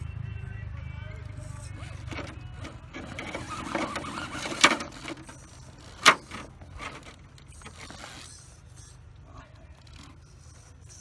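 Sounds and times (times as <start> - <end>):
electric motor and gearbox whirring: 1.0 - 11.0.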